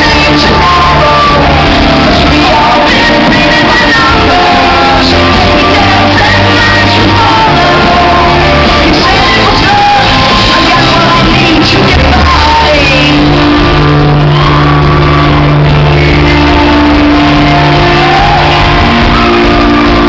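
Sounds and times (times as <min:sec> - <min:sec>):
drum kit: 0:00.0 - 0:20.0
electric guitar: 0:00.0 - 0:20.0
woman singing lead: 0:00.0 - 0:20.0.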